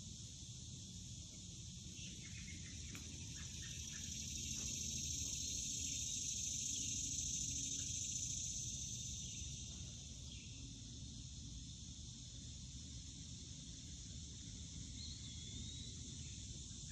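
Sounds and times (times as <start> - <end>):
insects chorus: 0.0 - 16.9.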